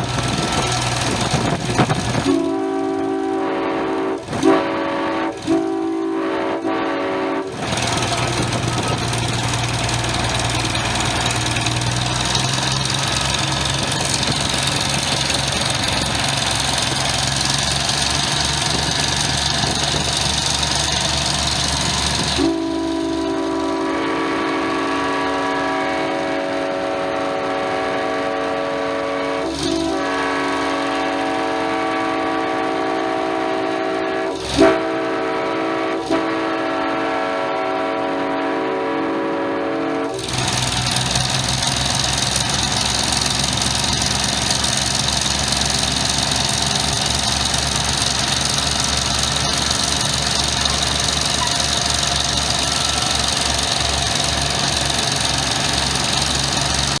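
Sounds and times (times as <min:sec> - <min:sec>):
diesel locomotive engine running: 0:00.0 - 0:57.0
train horn chord: 0:00.0 - 0:57.0.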